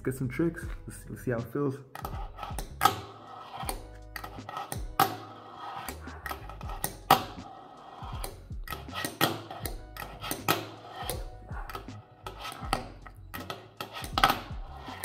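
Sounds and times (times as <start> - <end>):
background music: 0.0 - 15.0
fingerboard wheels rolling: 2.0 - 15.0.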